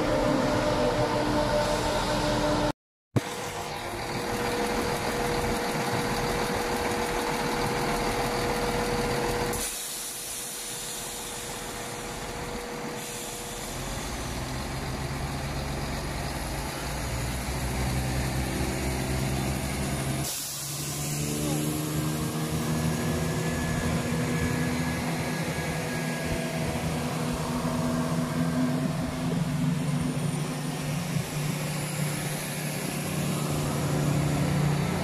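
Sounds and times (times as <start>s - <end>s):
low train running tones: 0.0s - 35.0s
passenger train running hum: 0.0s - 35.0s.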